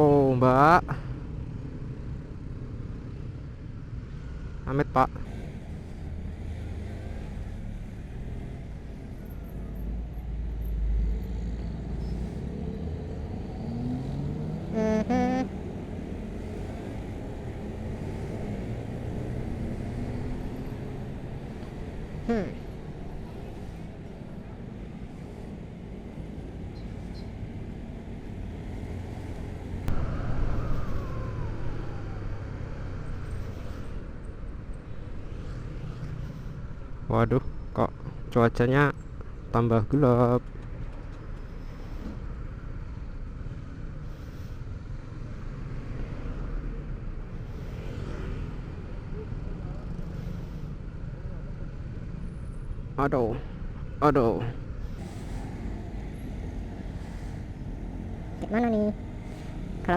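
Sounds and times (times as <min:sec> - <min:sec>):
road and wind rumble: 0:00.0 - 0:59.9.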